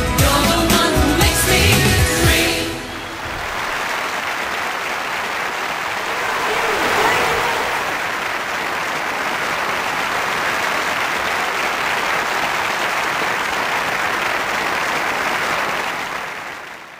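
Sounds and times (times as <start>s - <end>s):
audience applauding: 3.0s - 16.9s.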